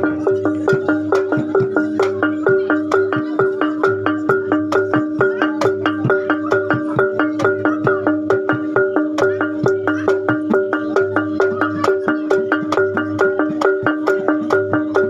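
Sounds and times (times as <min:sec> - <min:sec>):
gamelan metal mallet instruments: 0:00.0 - 0:15.0.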